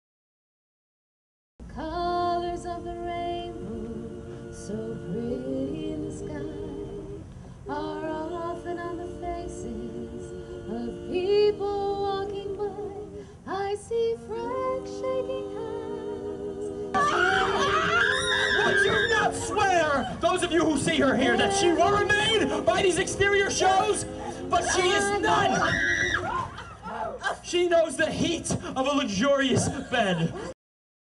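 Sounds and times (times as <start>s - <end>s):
voices singing in harmony: 1.8s - 27.3s.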